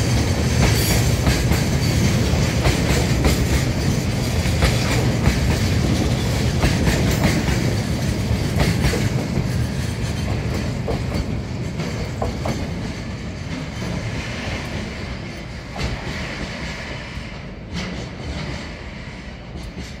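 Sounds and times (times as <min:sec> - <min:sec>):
heavy train rumble: 0:00.0 - 0:20.0
train wheels clickety-clack: 0:00.0 - 0:20.0.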